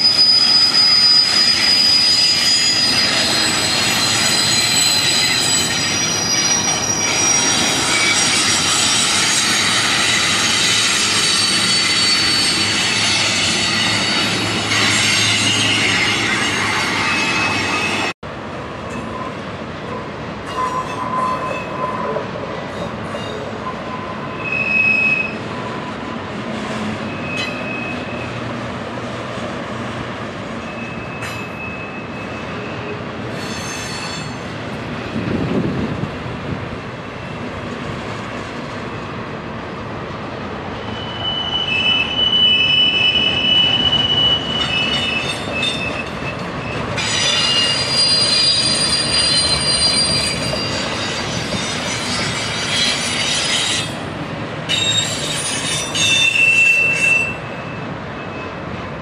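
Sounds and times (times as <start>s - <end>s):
train wheels squealing: 0.0s - 18.2s, 20.5s - 26.0s, 26.6s - 28.5s, 30.6s - 35.6s, 40.8s - 58.7s
train rolling past rumbling: 0.0s - 59.0s.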